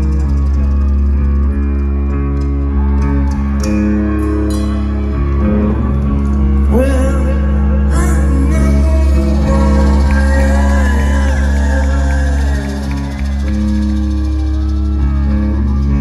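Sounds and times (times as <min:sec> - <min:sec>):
bass and drums: 0:00.0 - 0:16.0
electric guitar: 0:00.0 - 0:16.0
live rock band playing: 0:00.0 - 0:16.0.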